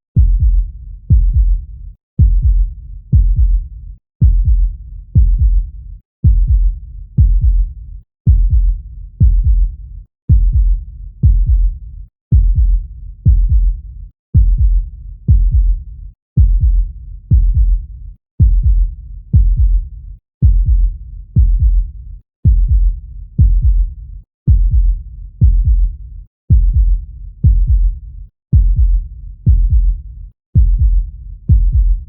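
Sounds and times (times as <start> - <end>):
heartbeat thumps: 0.2 - 13.8, 14.4 - 15.8, 16.4 - 30.0, 30.6 - 32.0.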